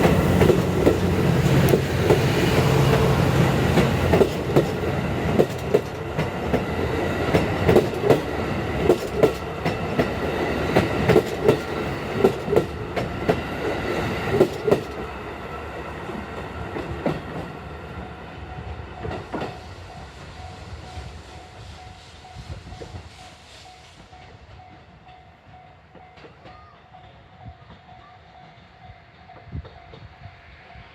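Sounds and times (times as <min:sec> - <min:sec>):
steam train rhythmic clatter: 0:00.0 - 0:30.9.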